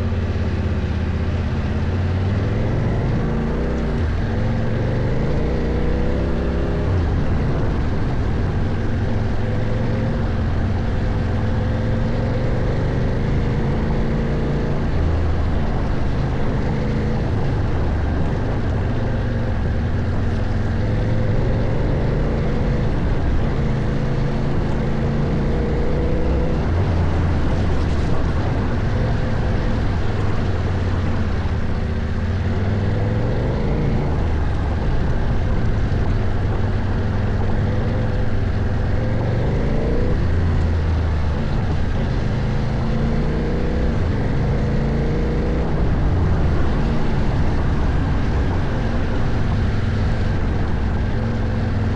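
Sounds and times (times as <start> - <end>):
motorcycle engine revving: 0.0 - 51.9
steady rushing noise: 0.0 - 51.9.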